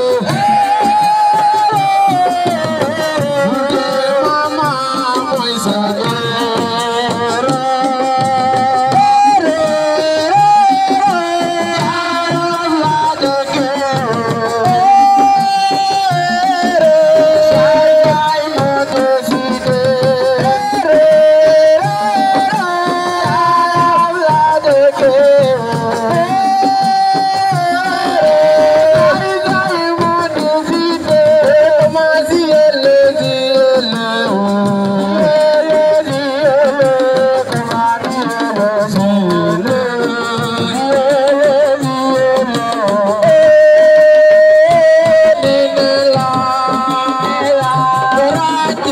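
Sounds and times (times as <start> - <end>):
fast hand drumming: 0.0 - 48.9.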